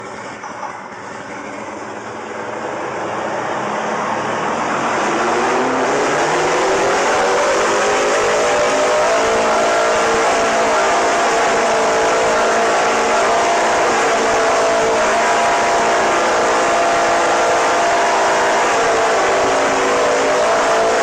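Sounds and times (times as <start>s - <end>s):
engine running at high speed: 0.0s - 21.0s.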